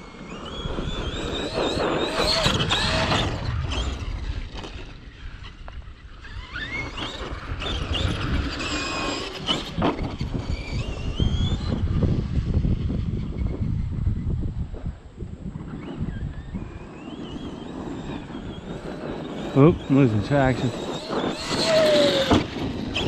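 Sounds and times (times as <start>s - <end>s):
toy truck electric motor whining: 0.0s - 13.5s, 15.7s - 23.0s.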